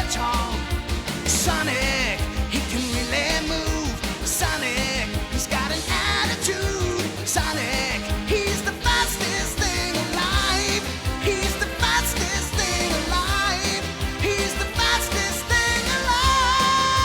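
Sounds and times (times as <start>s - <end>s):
bass guitar: 0.0s - 17.0s
steady drum beat: 0.0s - 17.0s
upbeat rock music: 0.0s - 17.0s.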